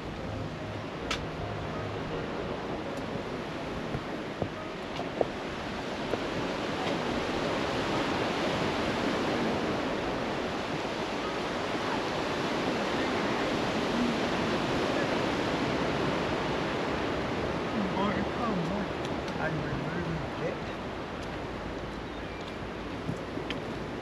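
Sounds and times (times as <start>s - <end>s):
sea surf washing on shore: 0.0s - 24.0s.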